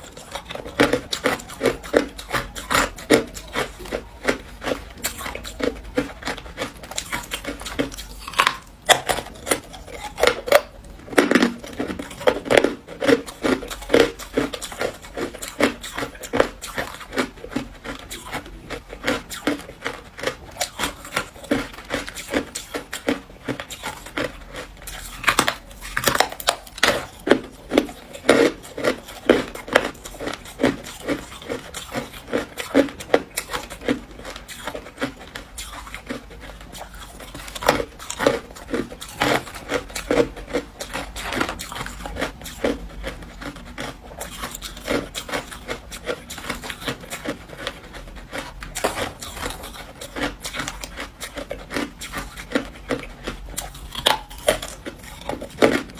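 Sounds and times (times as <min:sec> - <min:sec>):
ice crunching in mouth: 0:00.0 - 0:55.9.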